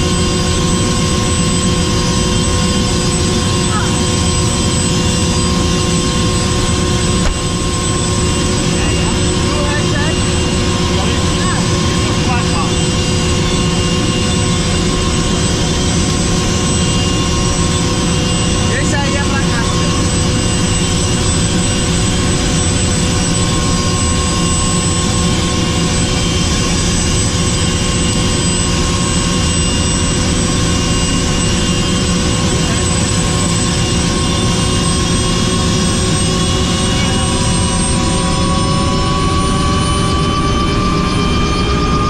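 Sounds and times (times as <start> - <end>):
helicopter rotor noise: 0.0 - 42.0
helicopter turbine whine: 0.0 - 42.0.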